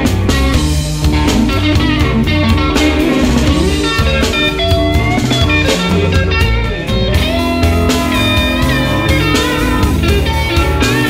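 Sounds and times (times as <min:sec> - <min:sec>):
blues-rock electric guitar: 0:00.0 - 0:11.0
steady drum beat: 0:00.0 - 0:11.0.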